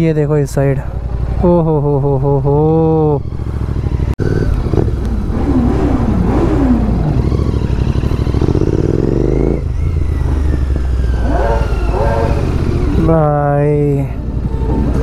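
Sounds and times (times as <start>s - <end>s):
motorcycle engine revving: 0.8s - 15.0s.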